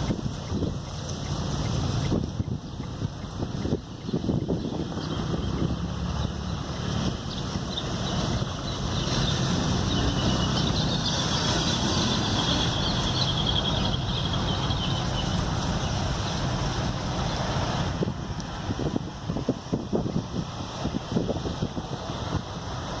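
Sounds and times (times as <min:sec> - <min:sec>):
vehicle engine running: 0:00.0 - 0:23.0
wind noise: 0:00.0 - 0:23.0.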